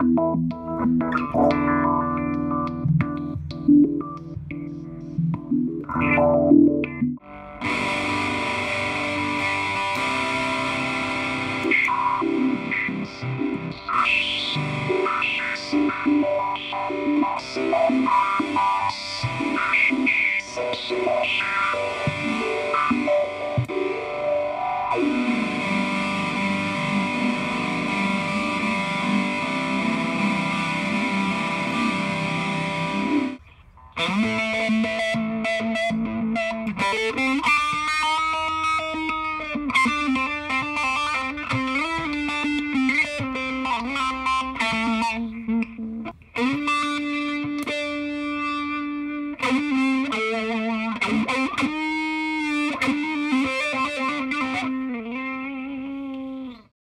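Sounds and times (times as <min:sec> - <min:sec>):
fuzzed electric guitar chord: 0:00.0 - 0:33.4, 0:34.0 - 0:56.5
filter-swept guitar notes: 0:00.0 - 0:56.7.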